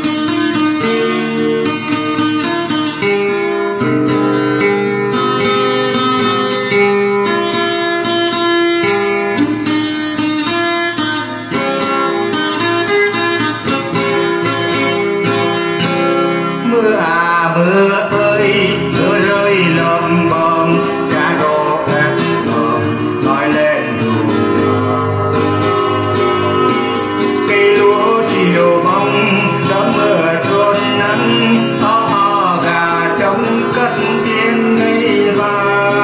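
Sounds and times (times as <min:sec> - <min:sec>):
plucked acoustic guitar: 0:00.0 - 0:36.0.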